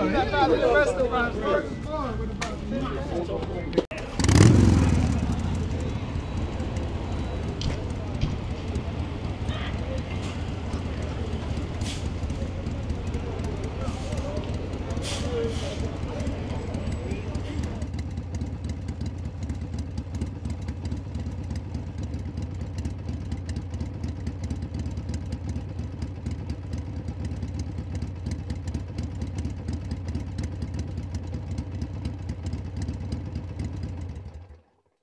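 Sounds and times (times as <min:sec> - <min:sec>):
motorcycle engine idling: 0:03.9 - 0:34.9.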